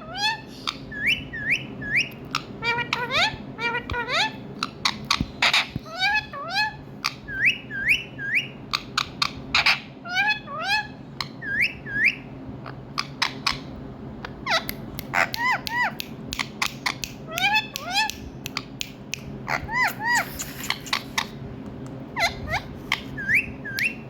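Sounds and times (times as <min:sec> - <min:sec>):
parakeet whistled calls: 0:00.0 - 0:13.7, 0:14.4 - 0:18.7, 0:19.4 - 0:21.4, 0:22.2 - 0:24.0.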